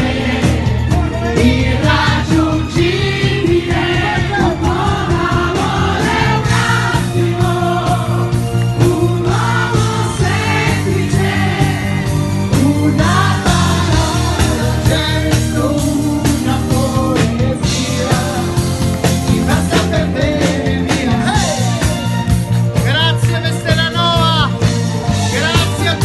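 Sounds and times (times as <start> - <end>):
crowd singing along: 0.0 - 22.2
lead vocals singing: 0.0 - 22.2
live band playing pop song: 0.0 - 26.0
steady drum beat: 0.0 - 26.0.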